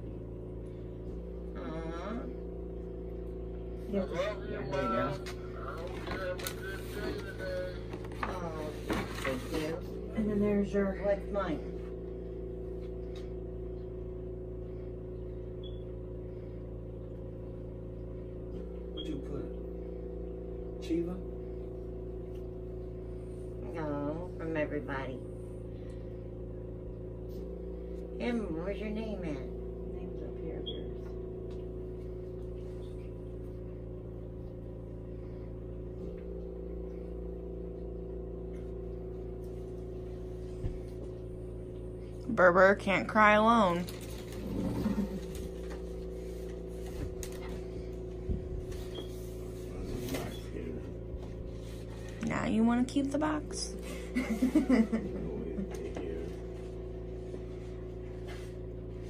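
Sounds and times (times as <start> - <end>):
motor humming: 0.0 - 59.0.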